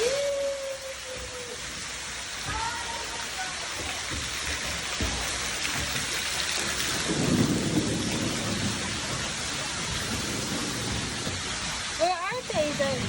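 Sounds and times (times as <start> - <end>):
splashing water: 0.0 - 13.0.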